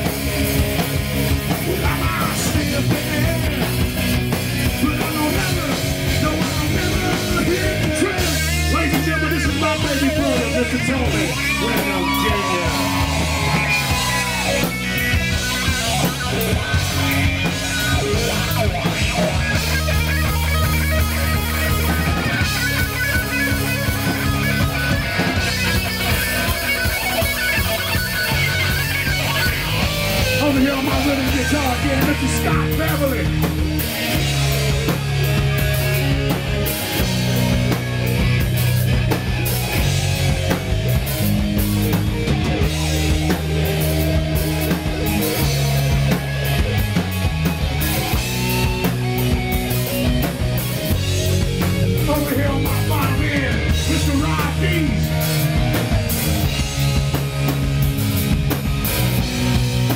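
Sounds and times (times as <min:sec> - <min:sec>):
bass guitar: 0:00.0 - 0:59.9
drum kit with cymbals: 0:00.0 - 0:59.9
electric guitar: 0:00.0 - 0:59.9.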